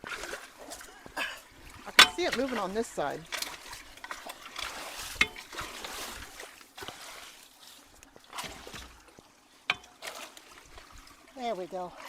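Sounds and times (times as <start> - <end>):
floodwater sloshing and trickling: 0.0 - 12.0.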